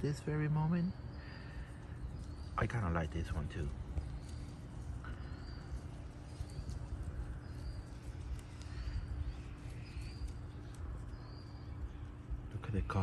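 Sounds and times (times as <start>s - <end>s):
faint hum: 0.0s - 13.0s
low outdoor rumble: 0.0s - 13.0s
small bird chirping: 0.0s - 13.0s.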